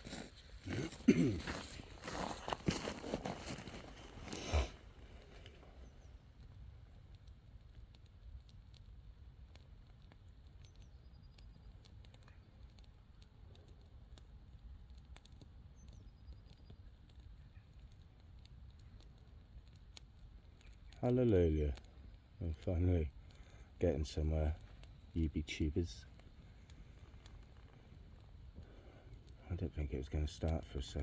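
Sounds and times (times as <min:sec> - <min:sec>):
bonfire crackling: 0:00.0 - 0:31.0.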